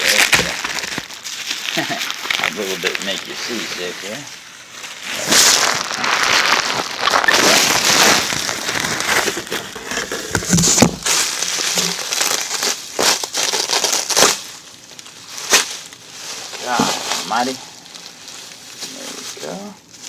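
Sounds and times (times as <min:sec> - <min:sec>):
plastic packaging crinkling: 0:00.0 - 0:20.0
plastic tape tearing: 0:00.0 - 0:20.0.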